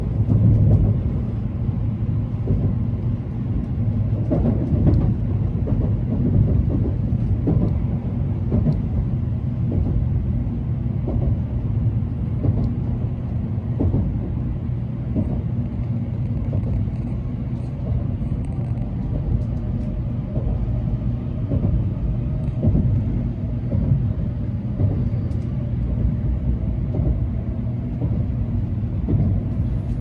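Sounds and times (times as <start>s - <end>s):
train rumble inside passenger car: 0.0s - 30.0s.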